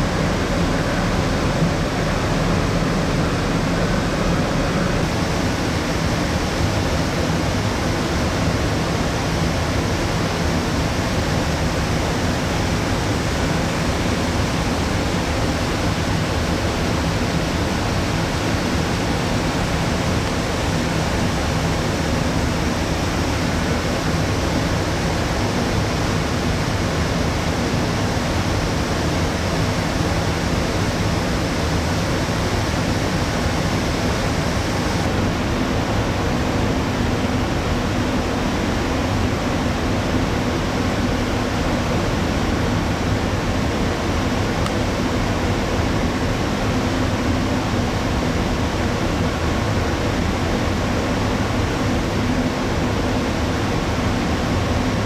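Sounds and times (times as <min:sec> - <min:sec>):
low steady drone: 0:00.0 - 0:55.0
ship ventilation rushing hum: 0:00.0 - 0:55.0.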